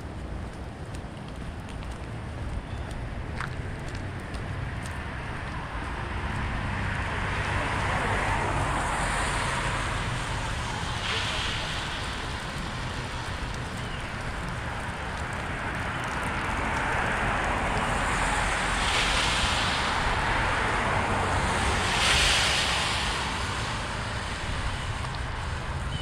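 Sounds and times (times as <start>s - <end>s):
car passing by: 4.5s - 26.0s.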